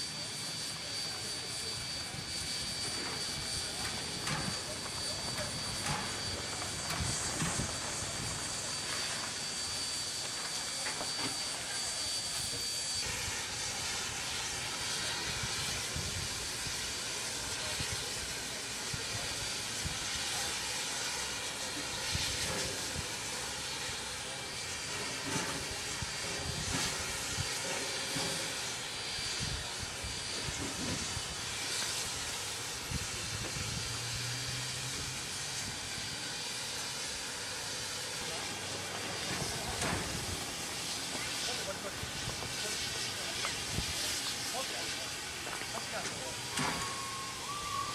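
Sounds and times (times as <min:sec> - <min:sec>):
steam locomotive hissing steam: 0:00.0 - 0:47.9.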